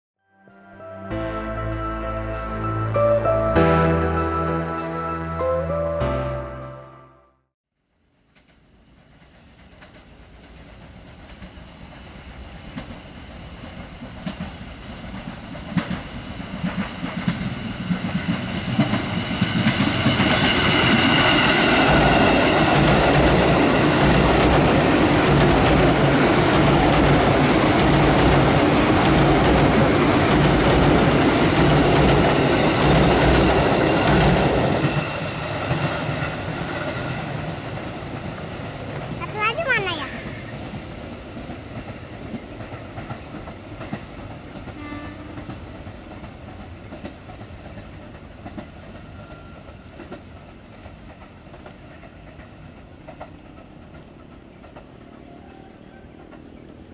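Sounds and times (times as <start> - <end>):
electric train passing: 0.4 - 7.3, 8.1 - 56.9
train wheels beating over rail joints: 8.4 - 56.9.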